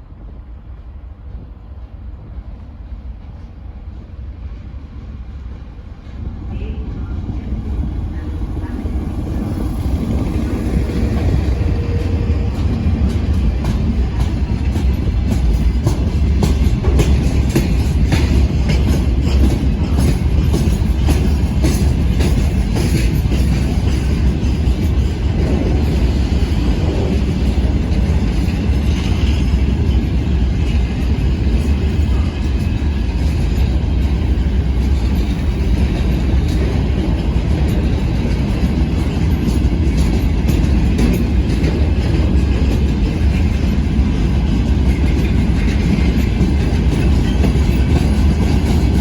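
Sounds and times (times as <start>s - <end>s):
heavy low train rumble: 0.0s - 49.0s
train wheels clattering over rail joints: 7.0s - 49.0s.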